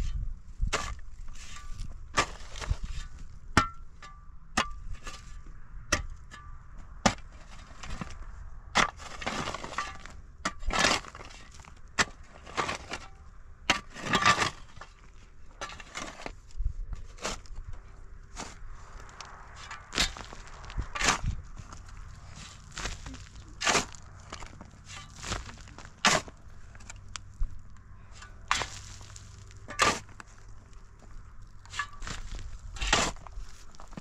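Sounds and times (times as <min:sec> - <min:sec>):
hand tool striking stony ground: 0:00.0 - 0:17.7, 0:18.3 - 0:34.0
scraping of earth and rock: 0:00.0 - 0:34.0.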